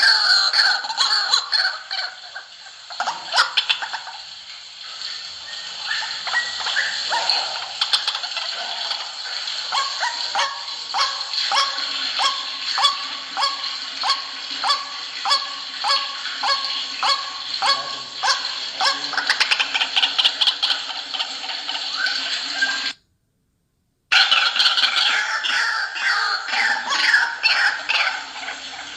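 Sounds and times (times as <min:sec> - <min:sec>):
waterhen calling: 0:00.0 - 0:23.0, 0:24.1 - 0:28.9.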